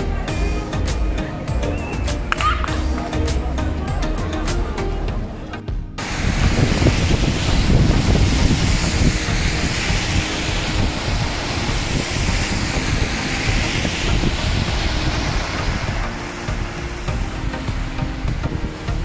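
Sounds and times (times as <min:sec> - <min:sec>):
heavy rain on a street: 0:00.0 - 0:19.0.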